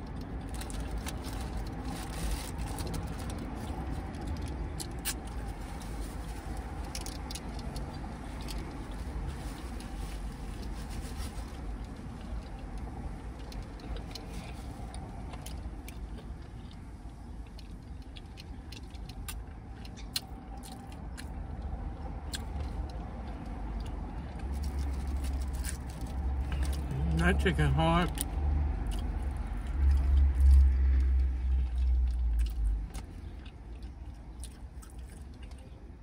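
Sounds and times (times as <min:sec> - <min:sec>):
person chewing food: 0:00.0 - 0:10.7, 0:11.6 - 0:27.0, 0:28.2 - 0:36.0.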